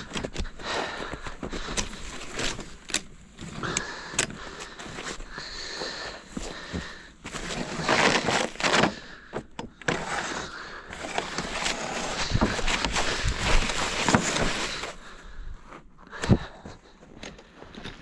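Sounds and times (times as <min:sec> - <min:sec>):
snow crunching and scraping: 0:00.0 - 0:15.2.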